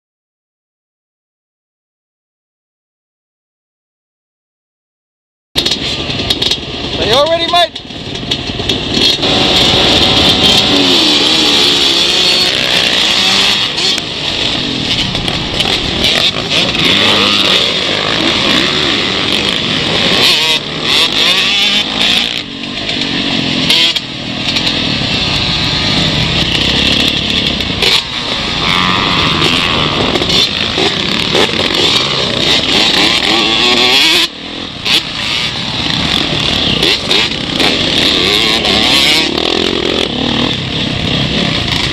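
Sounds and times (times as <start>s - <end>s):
dirt bike engine revving: 5.6s - 41.9s
other dirt bike engines: 5.6s - 41.9s.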